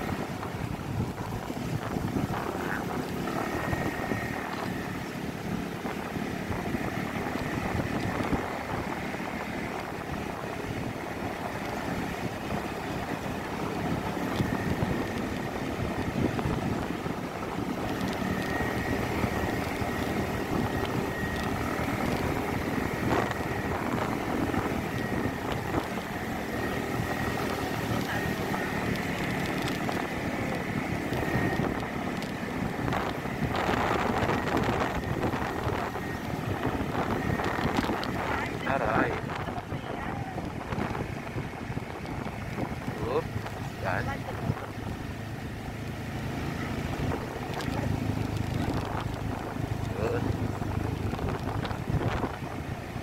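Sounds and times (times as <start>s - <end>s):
scooter engine running under load: 0.0s - 53.0s.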